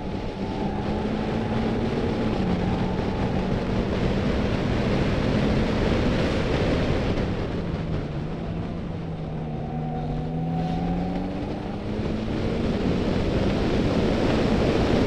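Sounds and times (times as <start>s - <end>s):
car engine droning: 0.0s - 15.0s
road noise: 0.0s - 15.0s
wind noise: 0.0s - 15.0s.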